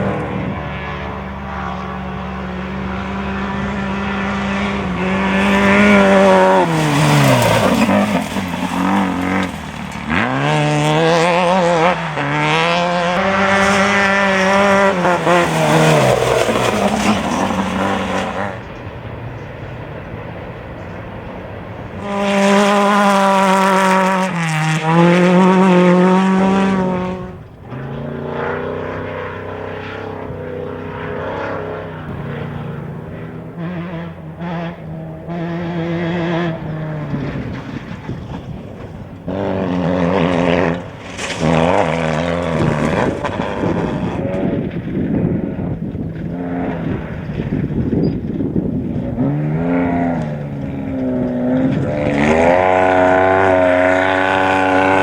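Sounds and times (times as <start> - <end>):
race vehicle engines passing: 0.0 - 55.0.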